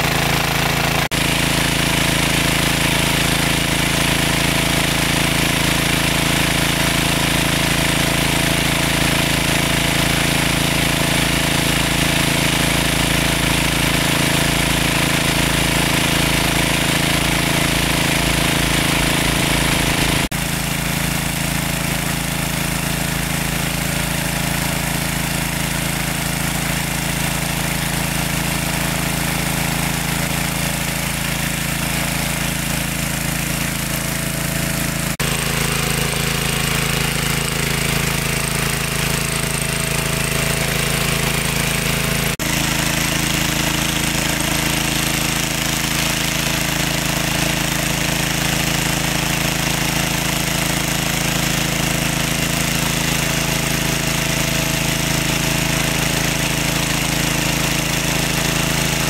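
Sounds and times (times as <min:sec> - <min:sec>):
engine-driven water pump running: 0:00.0 - 0:59.0.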